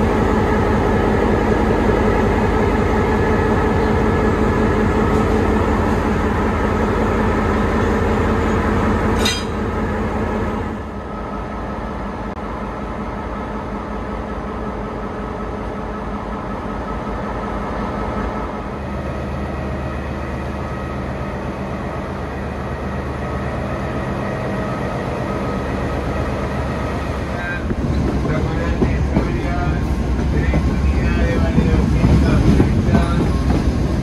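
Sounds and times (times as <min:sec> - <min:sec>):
train rumble and rail noise: 0:00.0 - 0:34.0.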